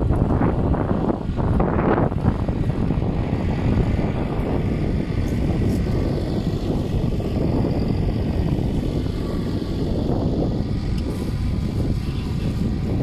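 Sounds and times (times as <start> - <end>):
tractor engine running: 0.0 - 13.0
wind buffeting microphone: 0.0 - 13.0.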